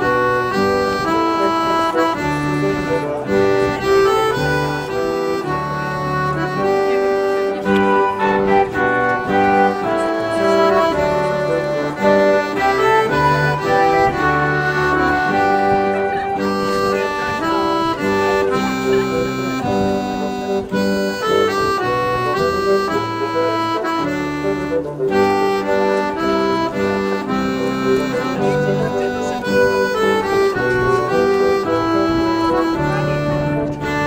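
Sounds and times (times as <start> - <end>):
accordion playing a tune: 0.0 - 34.0.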